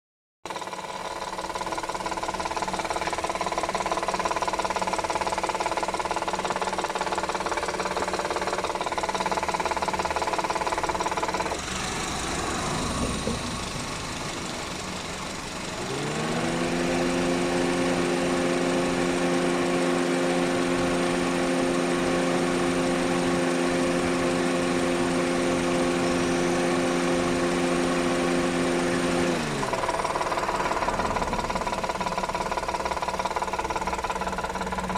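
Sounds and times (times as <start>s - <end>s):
car engine running with a knock: 0.5s - 34.9s.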